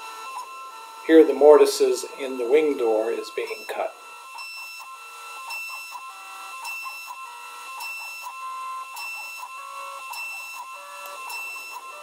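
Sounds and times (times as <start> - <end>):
high spindle whine: 0.0 - 12.0
stepper motor tones: 0.0 - 12.0.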